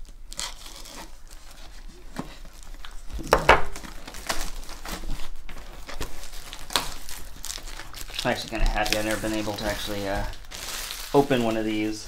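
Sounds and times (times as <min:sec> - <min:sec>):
plastic shrink wrap crinkling: 0:00.0 - 0:12.0.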